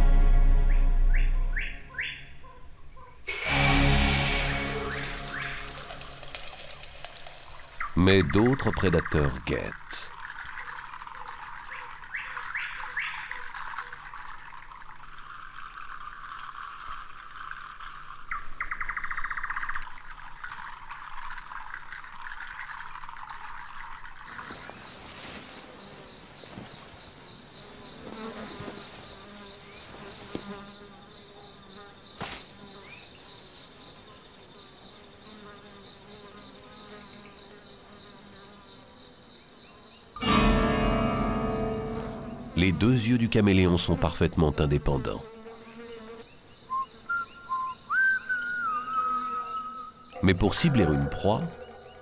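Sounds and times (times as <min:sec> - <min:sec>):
insects buzzing and trilling: 0:00.6 - 0:52.0
high-pitched insect chorus: 0:01.1 - 0:45.2, 0:45.8 - 0:52.0.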